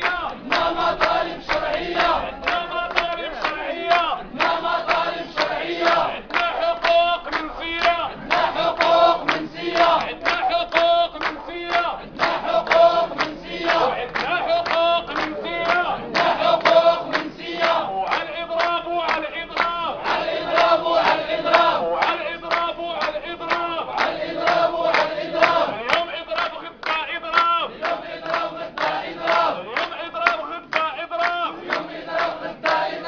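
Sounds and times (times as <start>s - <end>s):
men chanting in unison: 0.0s - 33.0s.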